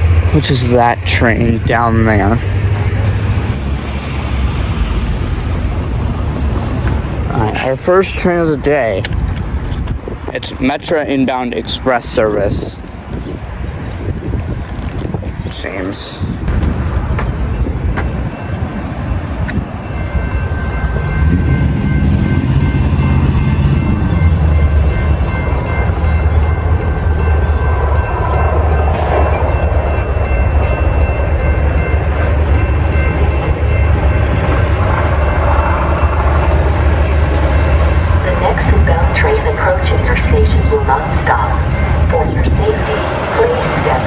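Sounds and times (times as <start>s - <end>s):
crossing bell ringing: 0.0s - 44.0s
train rumbling past: 0.0s - 44.0s.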